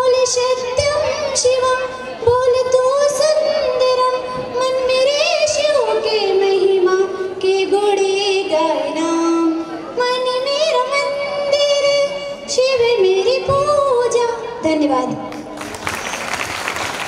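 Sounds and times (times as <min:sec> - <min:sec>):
woman singing into a microphone: 0:00.0 - 0:15.4.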